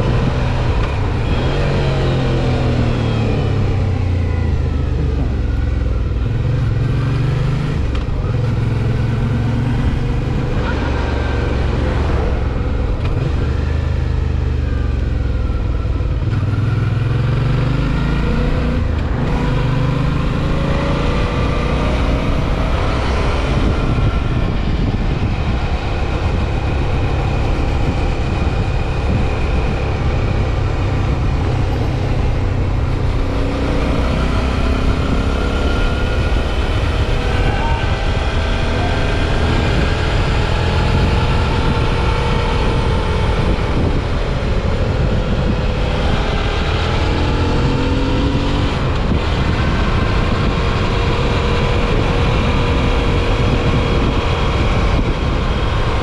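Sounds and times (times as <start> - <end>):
motorcycle engine running: 0.0 - 56.0
wind rumble on microphone: 0.0 - 56.0.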